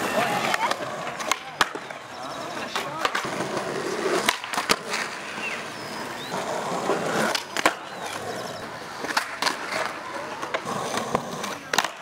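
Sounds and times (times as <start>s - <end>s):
skateboard wheels rolling on concrete: 0.0s - 12.0s
skateboard wooden clacks: 0.2s - 5.7s, 6.3s - 12.0s.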